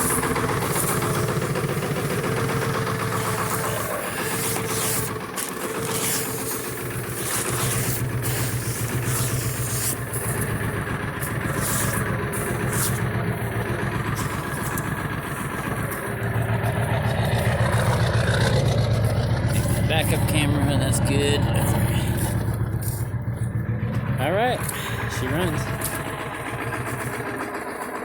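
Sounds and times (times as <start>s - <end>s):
diesel engine idling with clatter: 0.0s - 28.0s.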